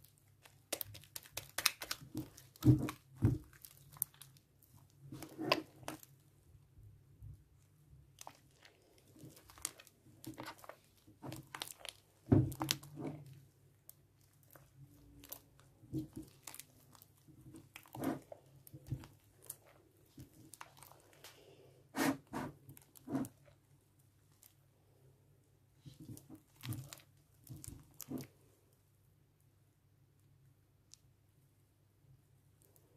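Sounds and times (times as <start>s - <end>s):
slime squelching by hand: 0.0s - 28.8s.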